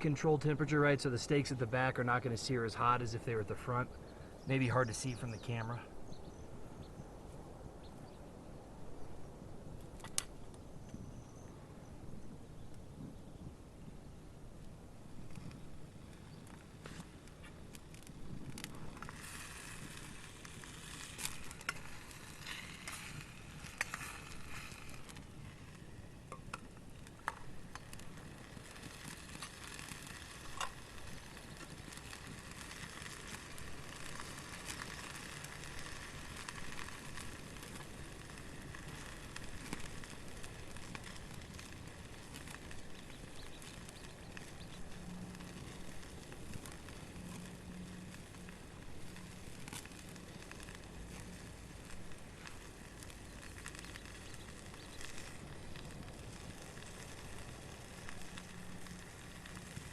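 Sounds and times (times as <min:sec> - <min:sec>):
campfire hissing: 0:00.0 - 0:59.9
fire crackling pops: 0:00.0 - 0:59.9.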